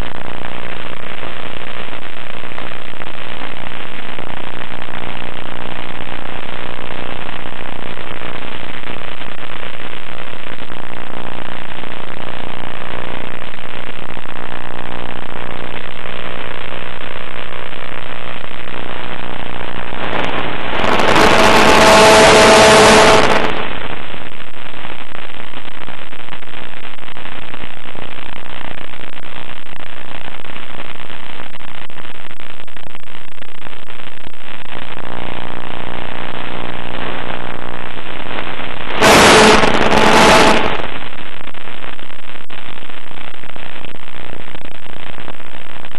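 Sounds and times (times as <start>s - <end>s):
burst of noise with tones: 0.0s - 45.9s
loud steady hiss: 0.0s - 45.9s.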